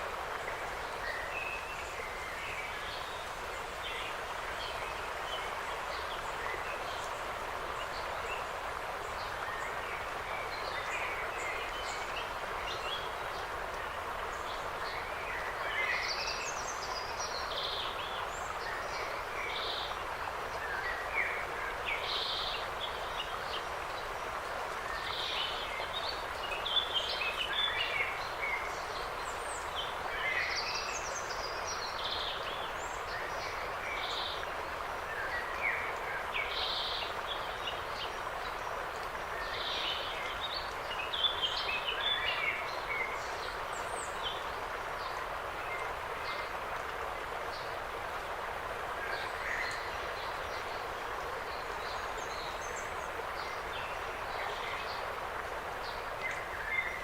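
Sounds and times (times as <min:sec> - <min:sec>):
wind in the trees: 0:00.0 - 0:57.0.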